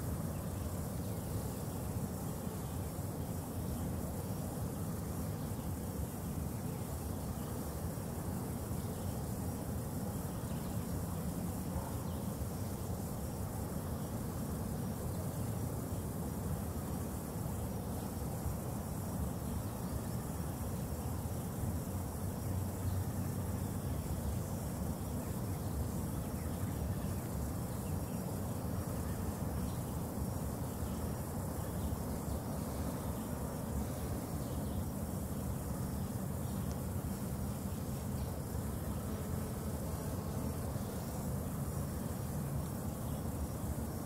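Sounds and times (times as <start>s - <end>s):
faint high hiss: 0.0s - 44.0s.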